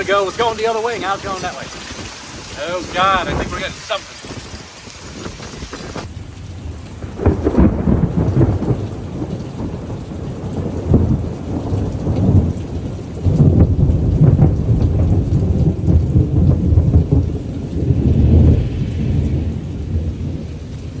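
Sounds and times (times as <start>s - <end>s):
heavy rain: 0.0s - 21.0s
thunder rumbling: 0.0s - 21.0s.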